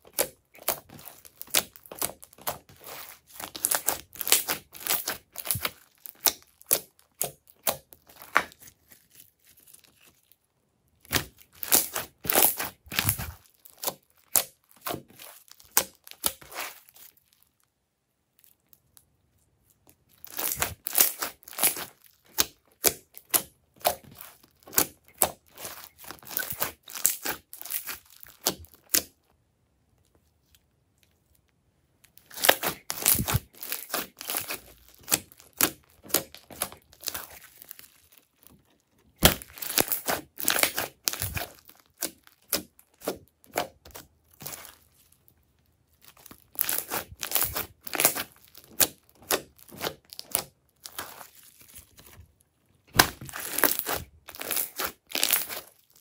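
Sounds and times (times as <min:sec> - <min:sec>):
crunchy slime crackling and squishing: 0:00.0 - 0:56.0.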